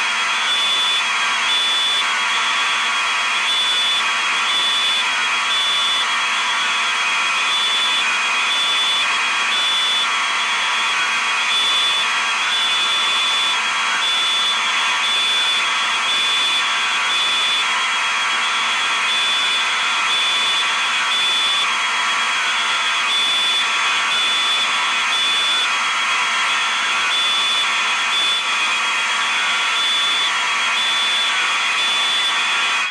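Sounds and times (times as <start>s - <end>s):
fire alarm tone: 0.3s - 32.9s.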